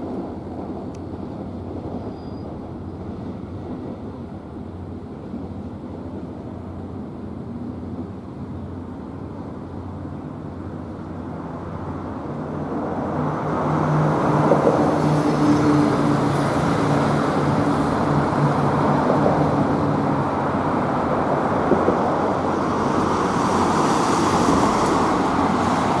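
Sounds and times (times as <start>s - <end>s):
train wheel and motor rush: 0.0s - 26.0s.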